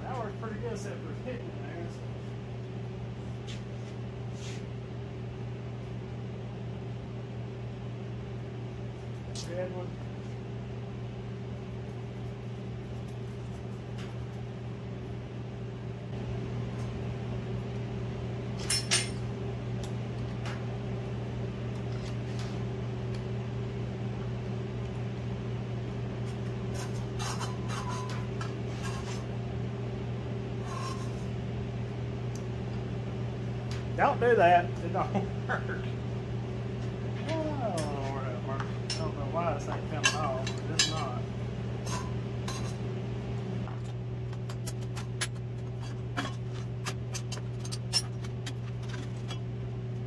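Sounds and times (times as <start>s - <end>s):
air conditioner humming: 0.0s - 50.0s.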